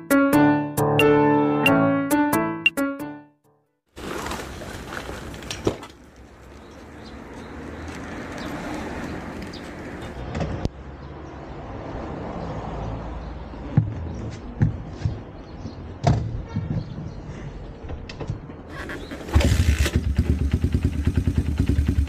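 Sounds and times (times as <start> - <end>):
outdoor background noise: 3.9 - 22.0.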